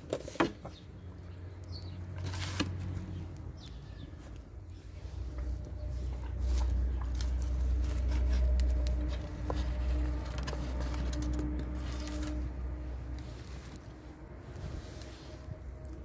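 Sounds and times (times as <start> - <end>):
wood fire crackling and popping: 0.0 - 16.0
low rumble: 2.9 - 16.0.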